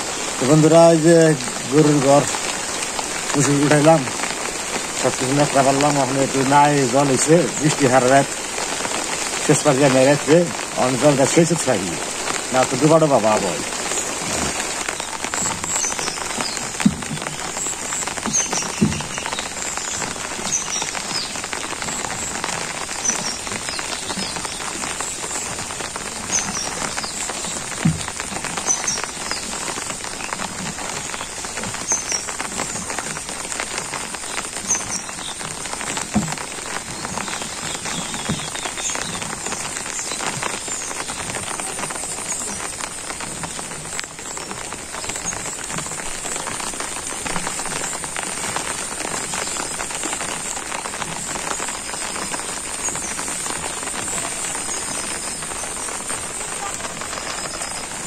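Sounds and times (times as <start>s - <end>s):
rain on water and leaves: 0.0s - 58.0s.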